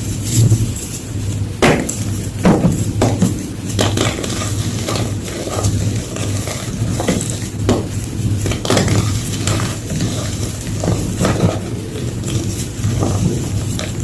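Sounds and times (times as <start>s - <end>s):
chalk crunching and crumbling: 0.0s - 14.0s
steady low hum: 0.0s - 14.0s.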